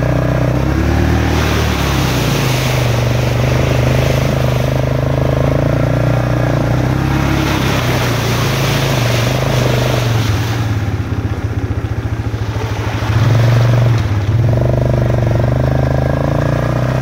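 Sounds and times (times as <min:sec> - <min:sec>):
rushing noise: 0:00.0 - 0:14.8
atv engine running: 0:00.0 - 0:17.0.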